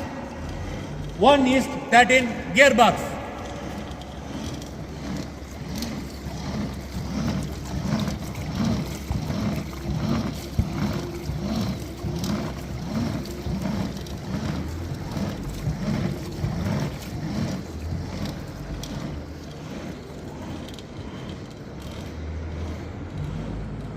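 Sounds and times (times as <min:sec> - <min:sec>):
washing machine rhythmic pulse: 0:00.0 - 0:23.9.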